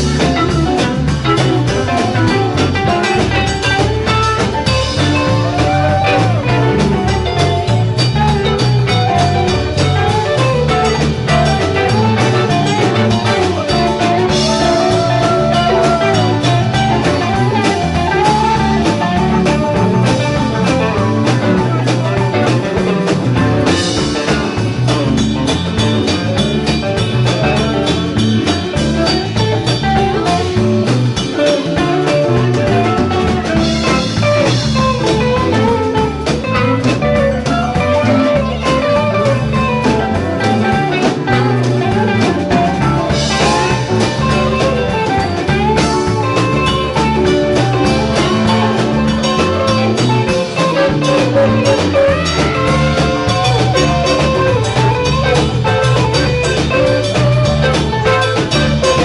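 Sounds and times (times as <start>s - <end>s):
drum kit beat: 0.0s - 59.0s
electric bass: 0.0s - 59.0s
electric guitar lead: 0.0s - 59.0s.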